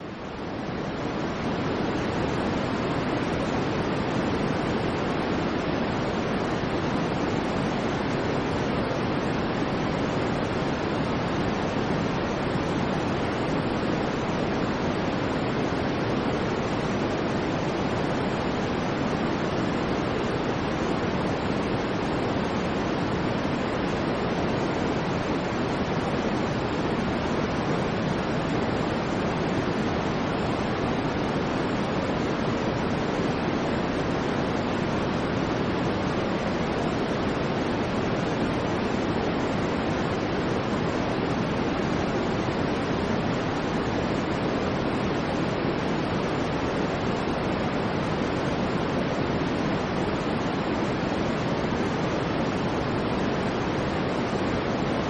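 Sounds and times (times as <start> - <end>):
synthesized white noise hiss: 0.0 - 55.0.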